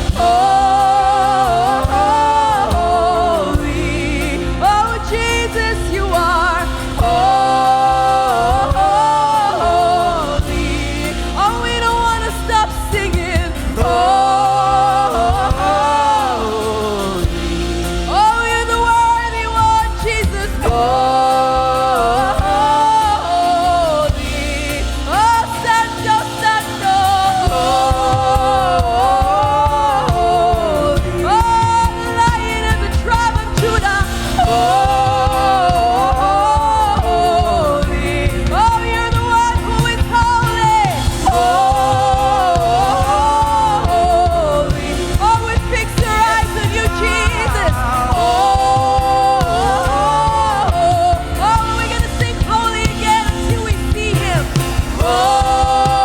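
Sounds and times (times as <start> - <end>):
backing band: 0.0 - 56.0
person singing with vibrato: 0.0 - 56.0.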